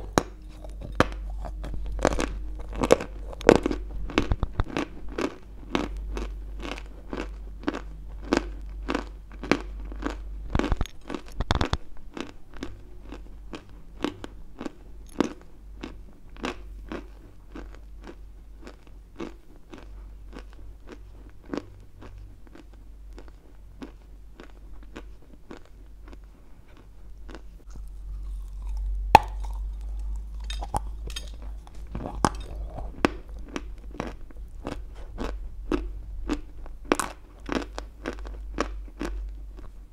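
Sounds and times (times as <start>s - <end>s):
chewing crunchy chalk: 0.0s - 39.8s.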